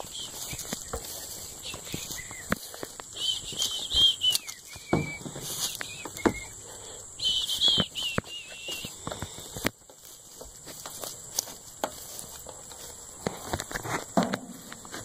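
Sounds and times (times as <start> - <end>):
birds chirping: 0.0 - 13.2
footsteps through grass and leaves: 0.0 - 15.0.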